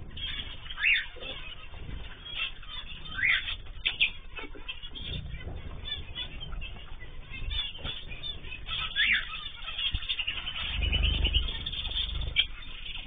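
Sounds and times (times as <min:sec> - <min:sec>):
small birds chirping: 0:00.0 - 0:13.0
wing flutters: 0:00.0 - 0:13.0.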